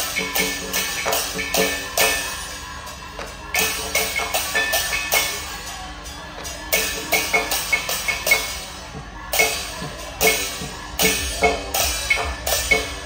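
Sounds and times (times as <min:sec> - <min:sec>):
cymbals and gongs struck: 0:00.0 - 0:13.0.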